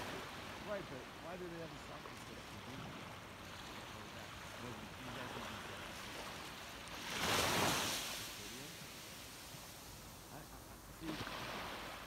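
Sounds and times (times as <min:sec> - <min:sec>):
small waves lapping on beach: 0:00.0 - 0:12.0.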